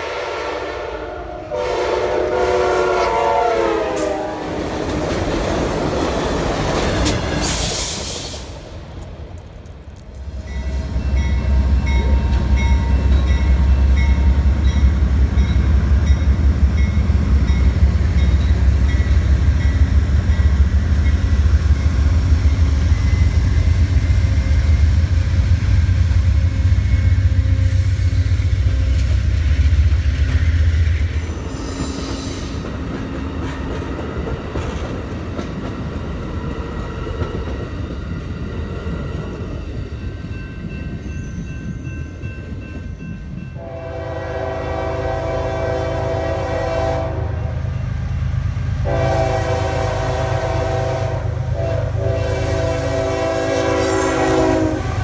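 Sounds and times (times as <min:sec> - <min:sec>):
diesel locomotive engine rumble: 0:00.0 - 0:55.0
train cars rolling: 0:01.6 - 0:55.0.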